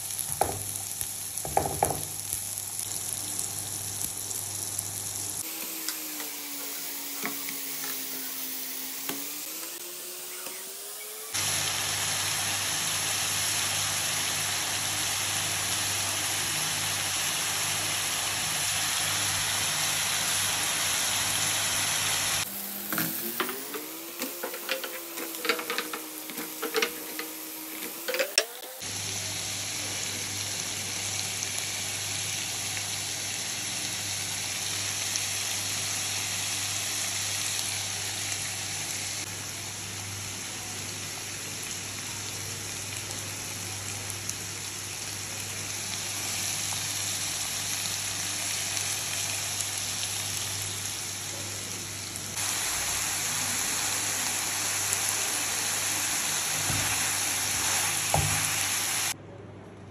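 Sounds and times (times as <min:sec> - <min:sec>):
meat and potatoes sizzling in pan: 0:00.0 - 0:59.2.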